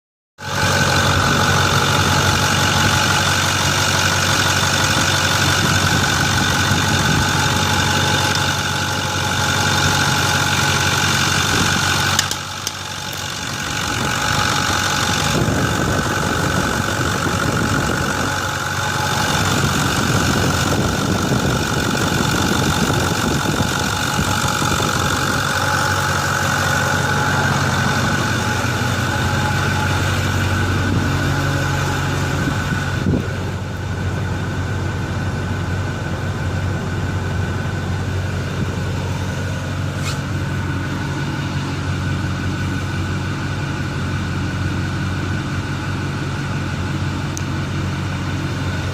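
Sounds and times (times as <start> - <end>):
diesel engine idling clatter: 0.4 - 48.9
turbo whine: 0.4 - 48.9.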